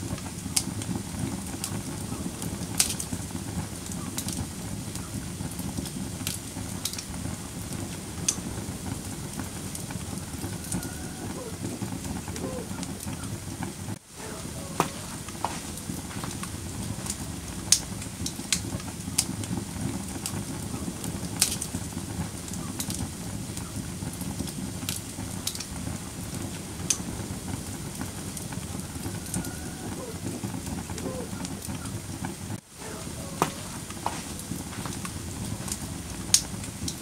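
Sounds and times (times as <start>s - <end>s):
fire crackles and pops: 0.0s - 37.0s
wood fire burning: 0.0s - 37.0s.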